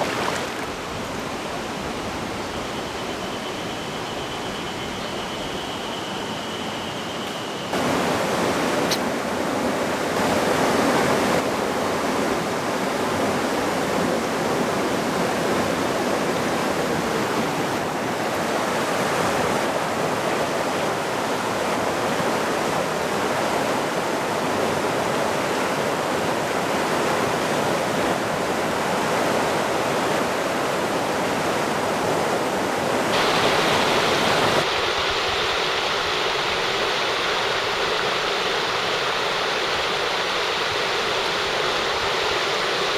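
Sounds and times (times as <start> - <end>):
stream water rushing: 0.0 - 4.6, 7.4 - 42.9.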